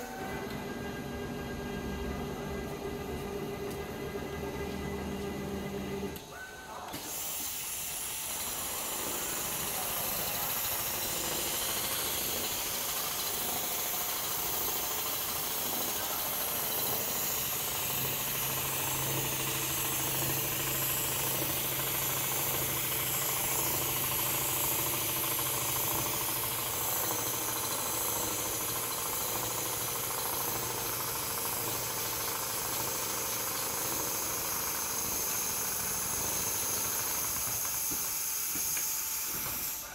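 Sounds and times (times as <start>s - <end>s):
sewing machine whirring: 0.0s - 39.9s.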